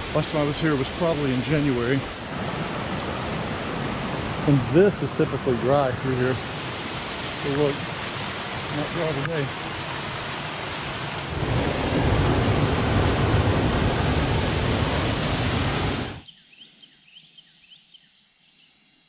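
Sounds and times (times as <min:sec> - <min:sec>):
rushing water: 0:00.0 - 0:16.2.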